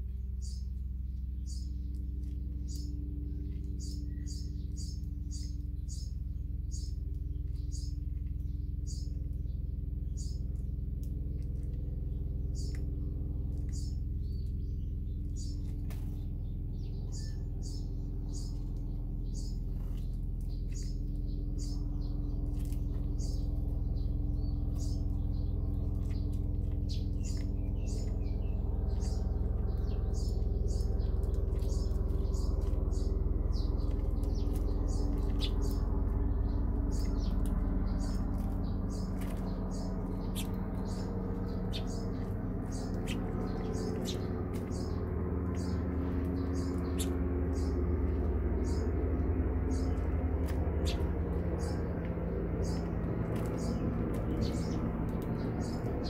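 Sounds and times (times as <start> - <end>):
sparrows chirping: 0.0 - 56.0
steady low hum: 0.0 - 56.0.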